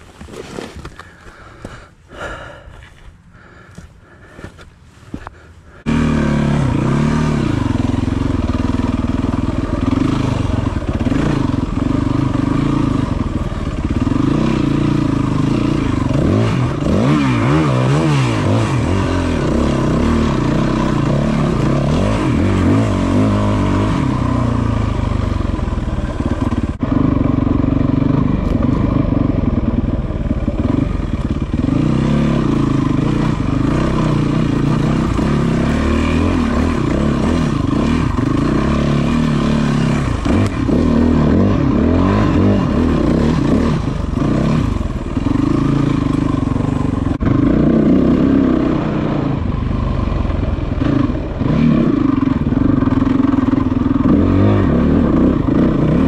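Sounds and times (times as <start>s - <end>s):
motorcycle engine revving: 3.4s - 56.0s.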